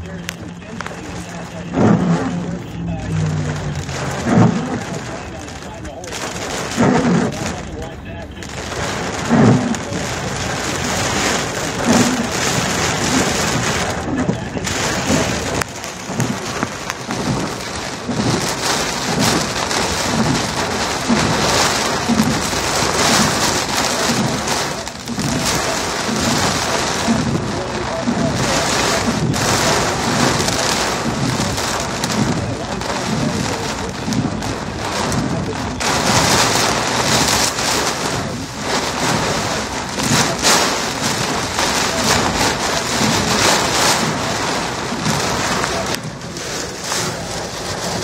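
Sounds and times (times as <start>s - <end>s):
heavy rain on car roof: 0.0s - 48.0s.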